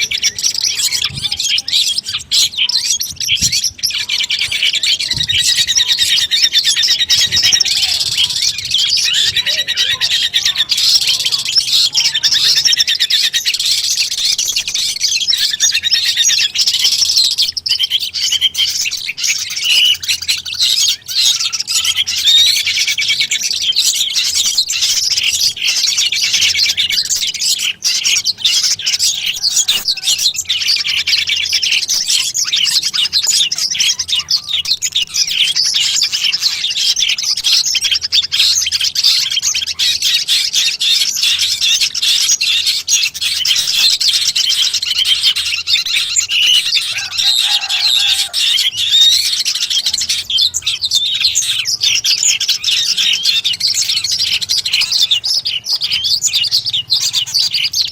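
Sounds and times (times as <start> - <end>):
bird chirping and trilling: 0.0 - 57.9.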